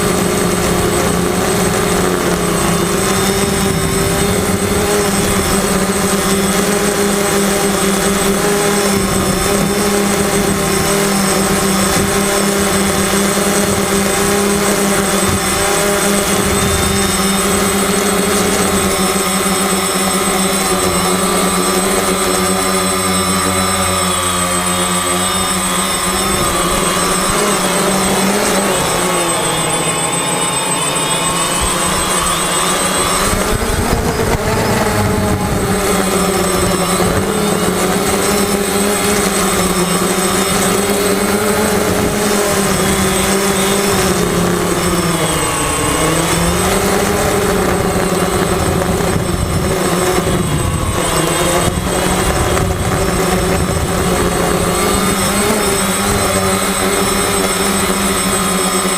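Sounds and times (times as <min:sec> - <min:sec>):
quadcopter motors whining: 0:00.0 - 0:58.9
wind noise: 0:00.0 - 0:58.9.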